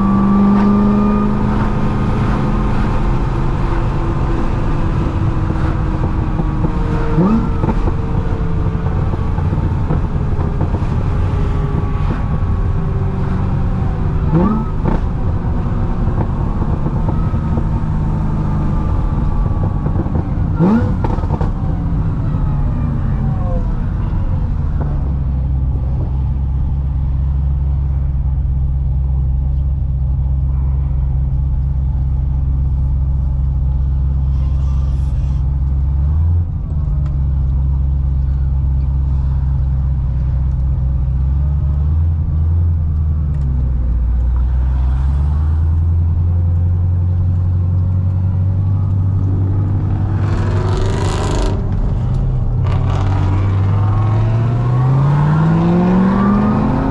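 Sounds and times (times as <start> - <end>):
car engine droning: 0.0 - 56.9.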